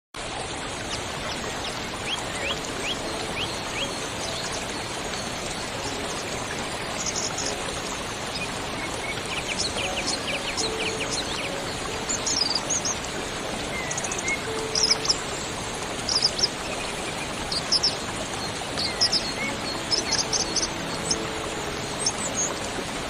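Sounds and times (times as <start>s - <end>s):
waterfall rushing: 0.2s - 23.0s.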